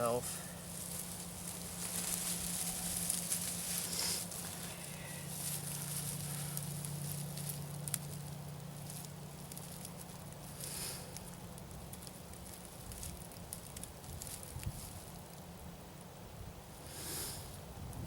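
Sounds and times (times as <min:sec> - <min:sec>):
dry tinder rustling and crackling: 0:00.0 - 0:15.6
low steady hum: 0:00.0 - 0:18.0.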